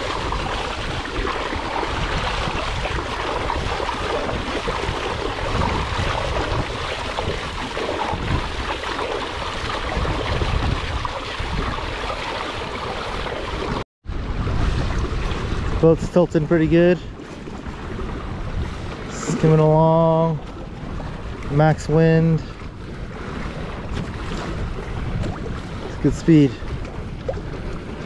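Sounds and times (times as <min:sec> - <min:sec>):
water splashing along a hull: 0:00.0 - 0:28.0
wind blowing on microphone: 0:00.0 - 0:28.0.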